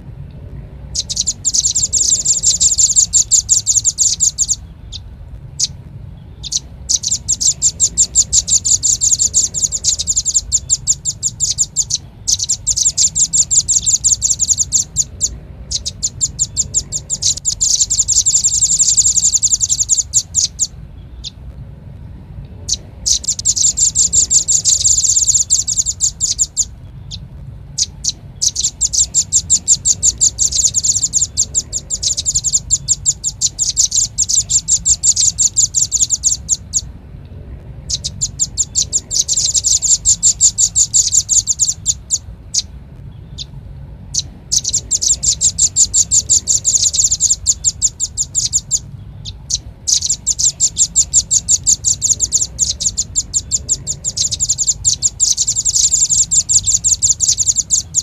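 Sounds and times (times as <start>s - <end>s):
faint low hum: 0.0s - 58.0s
bird chipping calls: 0.8s - 21.5s, 22.6s - 36.9s, 37.8s - 58.0s.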